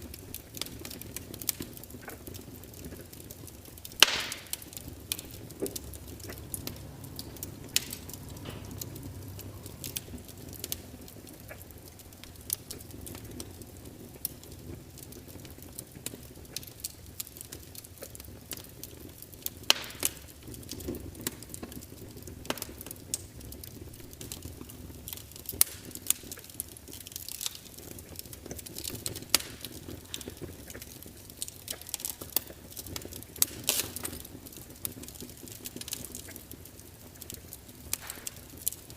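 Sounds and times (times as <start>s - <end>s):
log fire crackling: 0.0s - 38.9s
low steady fire rumble: 0.0s - 38.9s.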